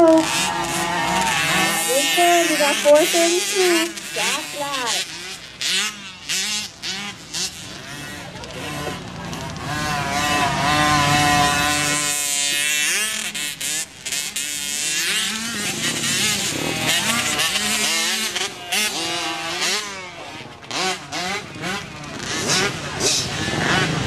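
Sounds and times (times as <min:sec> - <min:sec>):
motocross engines revving: 0:00.0 - 0:24.0.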